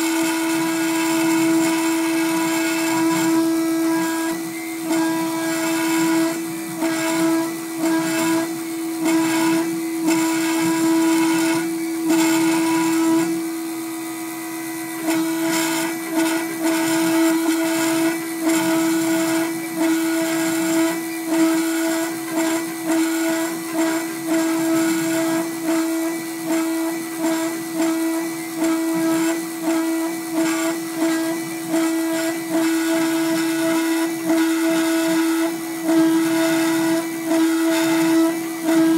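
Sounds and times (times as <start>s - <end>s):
engraving machine spindle whine: 0.0s - 38.9s.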